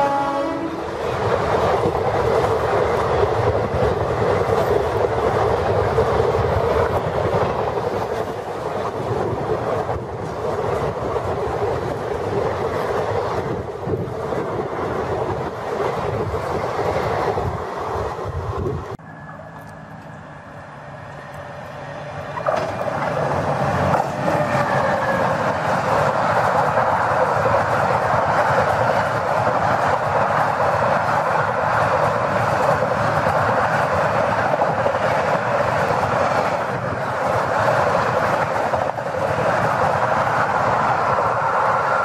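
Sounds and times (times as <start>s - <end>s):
train passing at speed: 0.0s - 42.0s
wheels rushing on rails: 0.0s - 42.0s.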